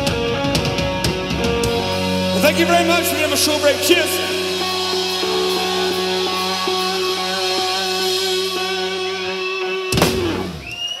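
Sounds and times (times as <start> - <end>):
electric guitars ringing: 0.0 - 10.8.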